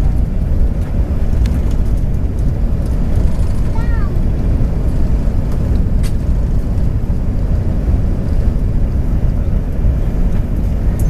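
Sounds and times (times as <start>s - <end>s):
jet engines rumbling: 0.0s - 11.0s
rushing air: 0.0s - 11.0s.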